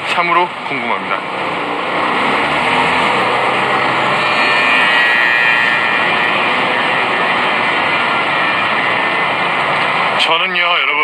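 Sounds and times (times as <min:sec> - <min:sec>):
city street traffic roar: 0:00.0 - 0:11.0.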